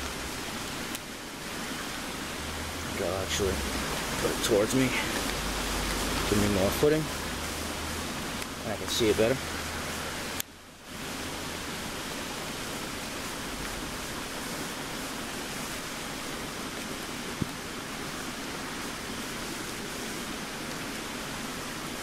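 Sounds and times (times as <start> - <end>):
rain on leaves: 0.0 - 22.0.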